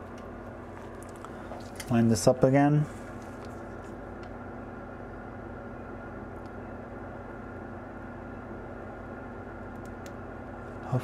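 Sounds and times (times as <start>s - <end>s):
electrical hum with fan hiss: 0.0s - 11.0s.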